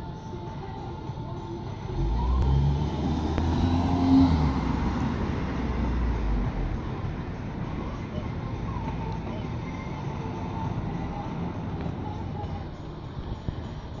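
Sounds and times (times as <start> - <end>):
vehicle passing: 1.8 - 14.0.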